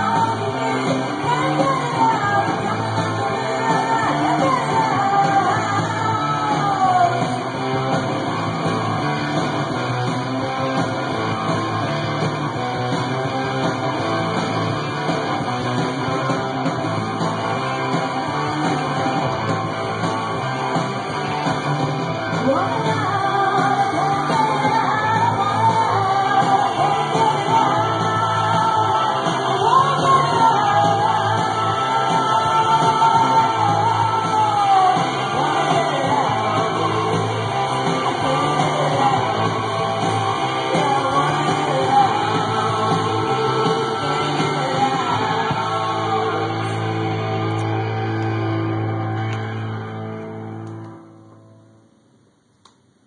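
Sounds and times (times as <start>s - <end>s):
punk rock song with singing: 0.0s - 50.5s.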